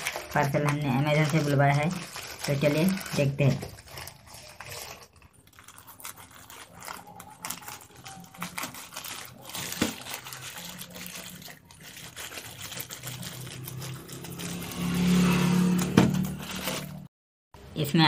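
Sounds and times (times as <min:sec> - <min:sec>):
scissors snipping plastic: 0:00.0 - 0:14.5
plastic crinkling and rustling: 0:00.0 - 0:17.1.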